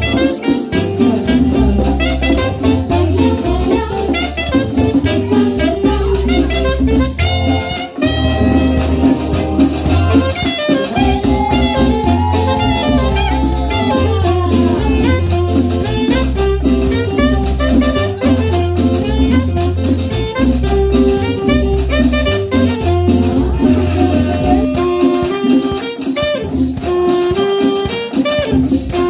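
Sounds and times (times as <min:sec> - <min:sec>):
bass line: 0:00.0 - 0:27.2
drums: 0:00.0 - 0:29.0
saxophone melody: 0:00.0 - 0:29.0.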